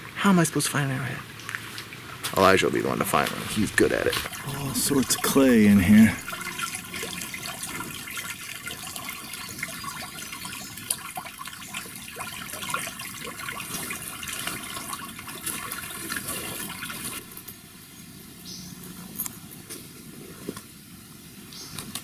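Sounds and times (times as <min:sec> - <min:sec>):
creek babbling over rocks: 0:00.0 - 0:17.8.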